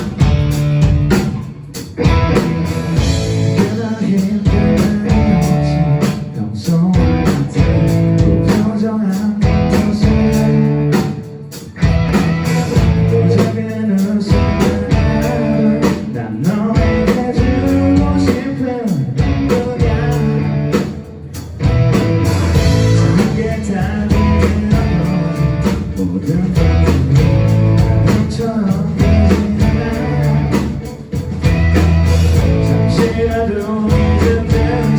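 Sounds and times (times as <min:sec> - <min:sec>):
electric guitars: 0:00.0 - 0:34.9
rock band playing live: 0:00.0 - 0:34.9
lead vocal singing: 0:02.9 - 0:11.4, 0:12.4 - 0:21.4, 0:22.2 - 0:31.4, 0:32.1 - 0:34.9.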